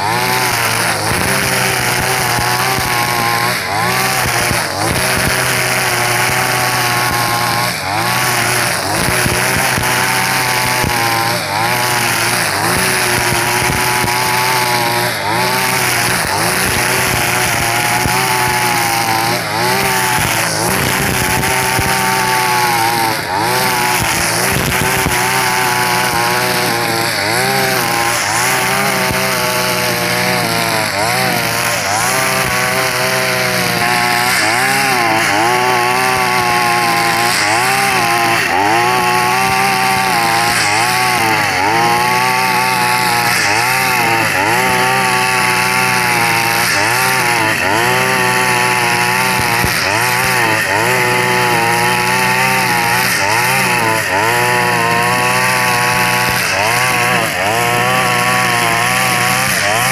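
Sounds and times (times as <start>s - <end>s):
brush cutter engine running: 0.0s - 59.9s
nylon line cutting grass: 0.0s - 59.9s.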